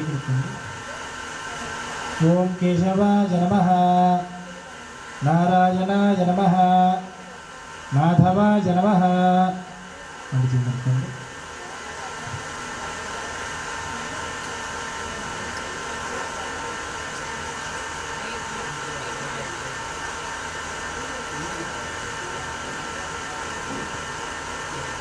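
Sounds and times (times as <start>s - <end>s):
machine whirring with high hum: 0.0s - 25.0s.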